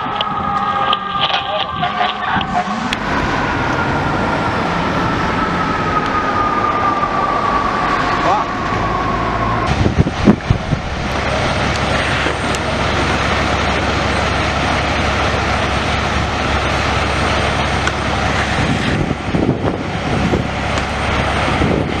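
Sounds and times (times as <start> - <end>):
heavy vehicle engine running: 0.0 - 22.0
road noise rush: 0.0 - 22.0.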